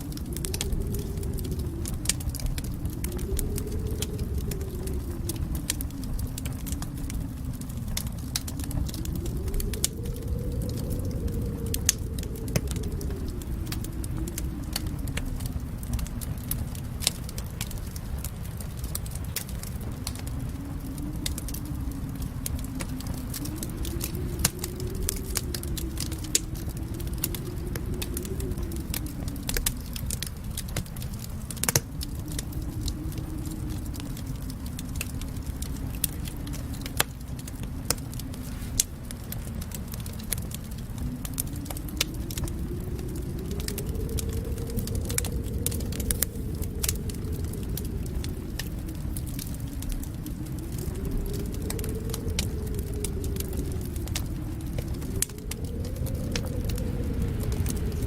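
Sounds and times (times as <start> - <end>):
fire crackling and popping: 0.0 - 58.0
low steady rumble: 0.0 - 58.0.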